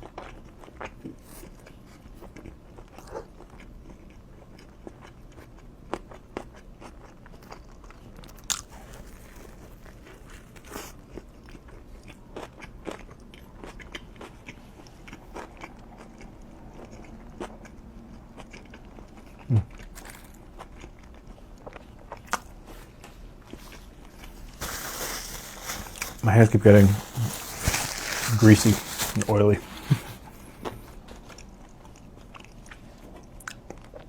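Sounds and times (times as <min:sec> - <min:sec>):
food crunching: 0:00.0 - 0:34.0
person chewing food: 0:00.0 - 0:34.0.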